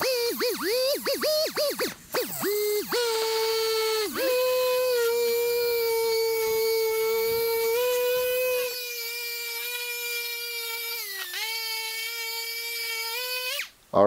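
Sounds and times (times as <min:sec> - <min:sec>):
pneumatic sander whining: 0:00.0 - 0:13.8.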